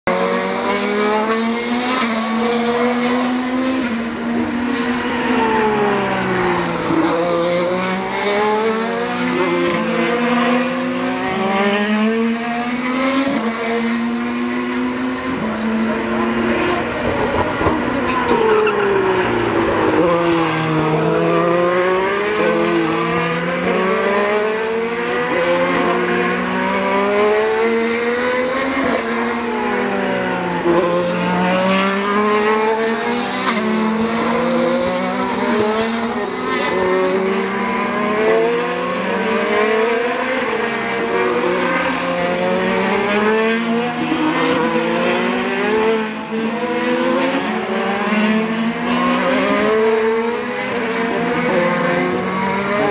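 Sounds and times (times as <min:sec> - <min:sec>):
race car engines at speed: 0:00.0 - 0:52.9.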